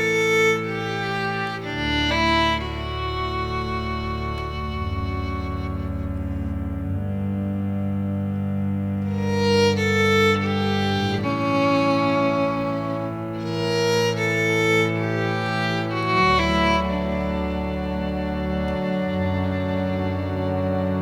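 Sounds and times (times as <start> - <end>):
held low bass notes: 0.0 - 21.0
slow string melody: 0.0 - 21.0.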